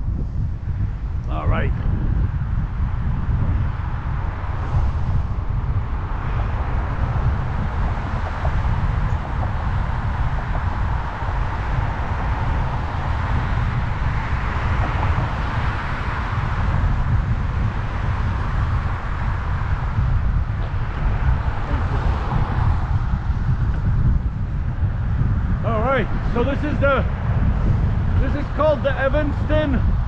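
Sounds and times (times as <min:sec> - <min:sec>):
wind rumbling on microphone: 0:00.0 - 0:30.0
bicycle tyres rolling on trail: 0:01.8 - 0:30.0.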